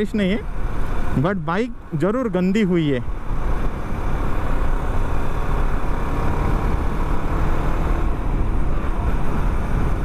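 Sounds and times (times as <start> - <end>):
motorcycle engine cruising: 0.0 - 10.0
riding wind rush: 0.0 - 10.0.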